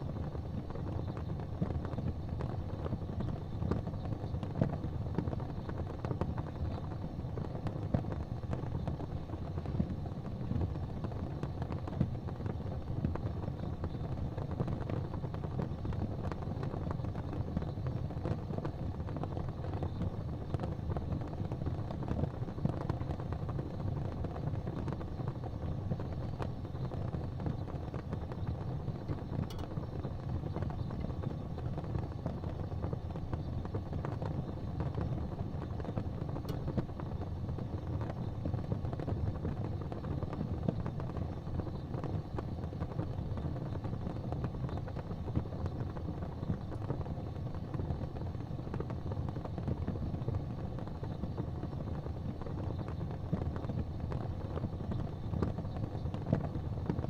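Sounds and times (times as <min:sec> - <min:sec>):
faint fire crackles: 0:00.0 - 0:57.0
fireplace fire burning: 0:00.0 - 0:57.0.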